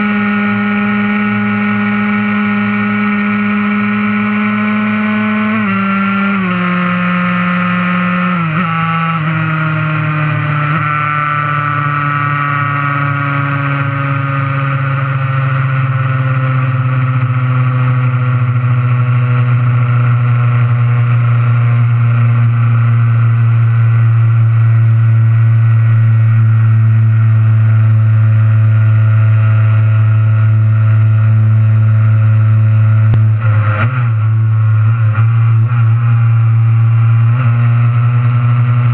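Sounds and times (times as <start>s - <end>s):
two-stroke racing engine revving: 0.0s - 26.5s, 28.3s - 38.9s.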